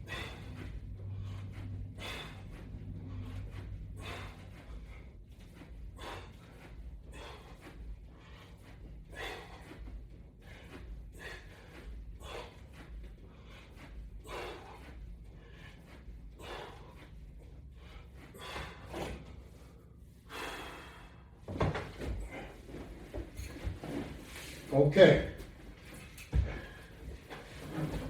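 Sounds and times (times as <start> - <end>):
man breathing hard: 0.0 - 23.5, 25.9 - 27.4.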